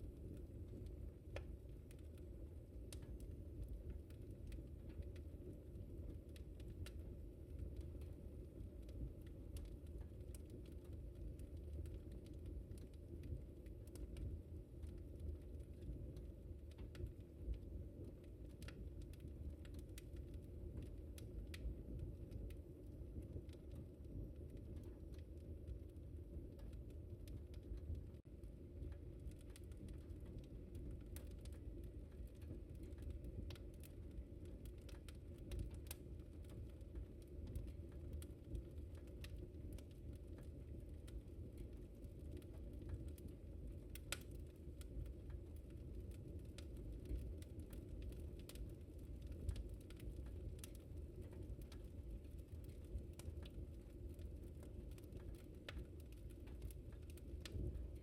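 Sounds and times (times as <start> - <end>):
low rumble of flames: 0.0 - 58.0
wood fire snapping and popping: 0.0 - 58.0.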